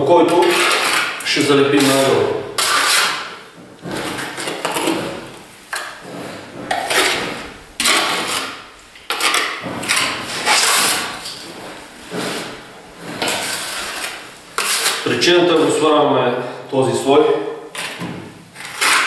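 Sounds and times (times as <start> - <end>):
trowel scraping plaster: 0.2 - 15.8, 17.8 - 19.0.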